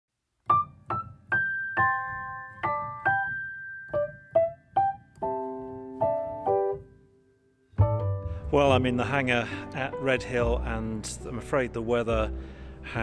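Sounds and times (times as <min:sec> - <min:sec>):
gentle piano music: 0:00.4 - 0:13.0.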